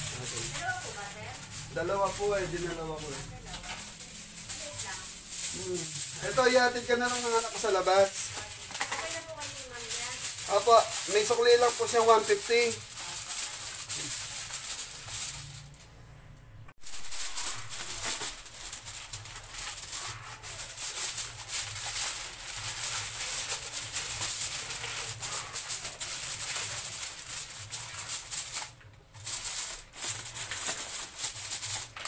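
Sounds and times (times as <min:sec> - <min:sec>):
aluminium foil crinkling: 0:00.0 - 0:15.7, 0:16.8 - 0:32.0.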